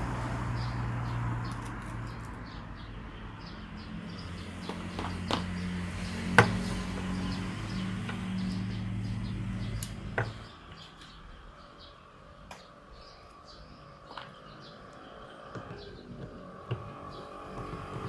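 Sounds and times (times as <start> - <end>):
faint birds chirping: 0.2 - 18.0.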